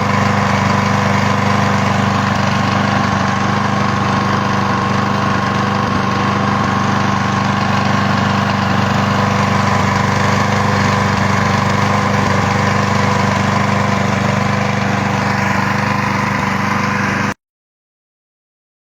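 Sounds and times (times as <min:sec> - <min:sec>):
lawnmower engine running: 0:00.0 - 0:17.4.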